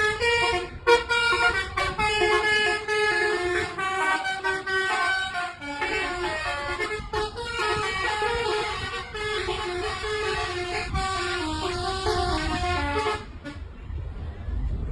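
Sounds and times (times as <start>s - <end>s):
musical air horn tune: 0.0s - 13.6s
low vehicle rumble: 0.0s - 14.9s.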